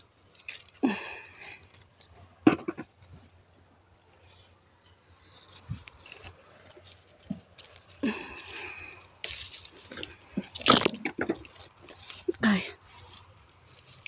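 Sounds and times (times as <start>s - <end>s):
leaves and twigs rustling: 0.0s - 14.0s.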